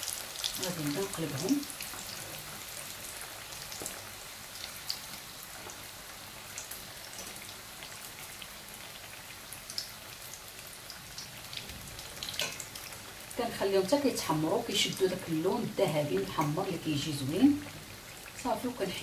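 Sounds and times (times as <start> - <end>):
pastry deep-frying in oil: 0.0 - 19.0.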